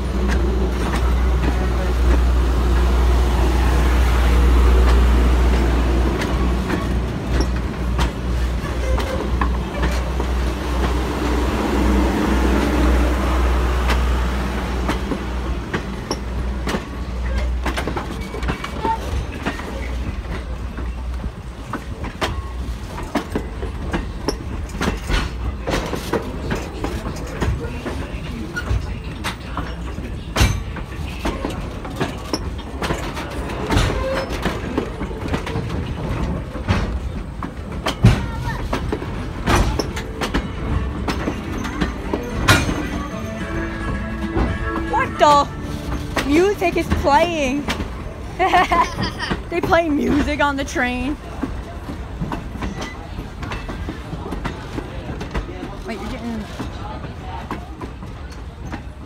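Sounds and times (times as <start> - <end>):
railroad coaches rumbling past: 0.0 - 59.0
wheels clicking over rail joints: 0.0 - 59.0.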